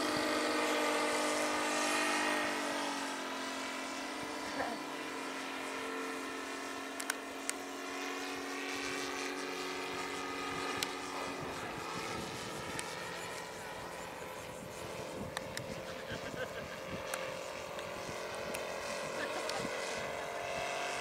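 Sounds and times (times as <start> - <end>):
model plane engine droning: 0.0 - 21.0.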